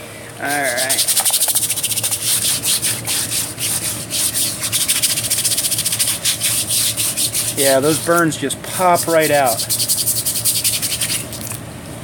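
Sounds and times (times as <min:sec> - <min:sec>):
scrub brush scrubbing wet wood: 0:00.4 - 0:11.5.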